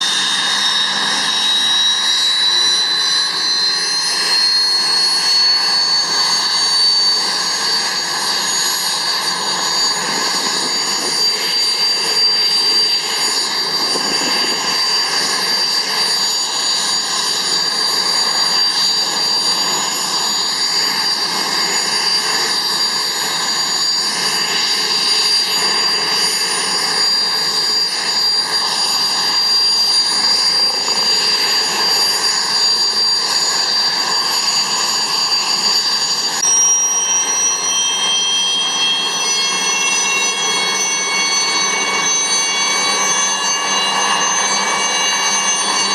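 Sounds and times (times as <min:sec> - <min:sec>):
helicopter turbine whine: 0:00.0 - 0:45.9.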